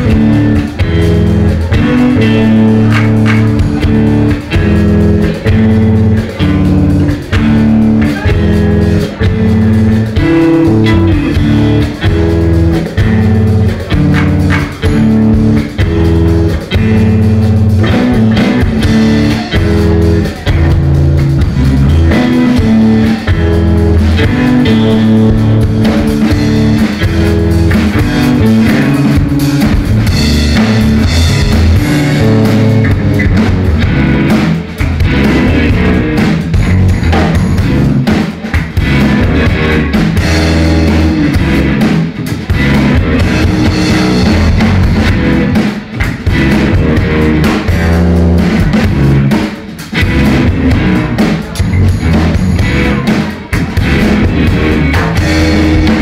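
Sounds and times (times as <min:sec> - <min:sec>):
drum kit: 0:00.0 - 0:56.0
electric guitars playing riff: 0:00.0 - 0:56.0.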